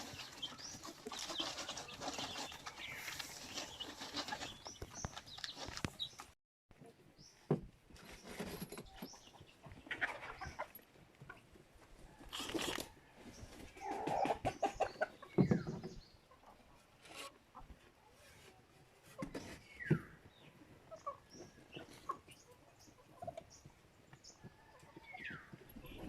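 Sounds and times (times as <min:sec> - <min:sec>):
chickens clucking: 0:00.0 - 0:07.1, 0:08.9 - 0:26.0.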